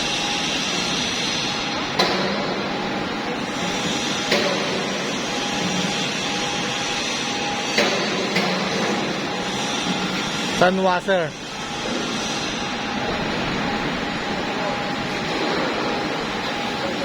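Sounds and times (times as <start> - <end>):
factory machine running: 0.0 - 17.0.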